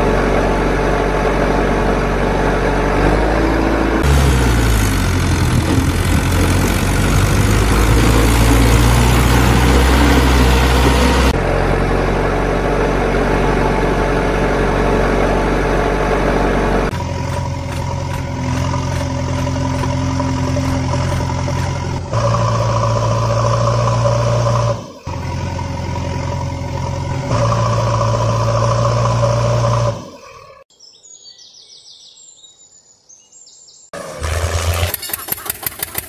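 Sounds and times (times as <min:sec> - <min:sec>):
truck engine running: 0:00.0 - 0:30.2, 0:34.0 - 0:36.0.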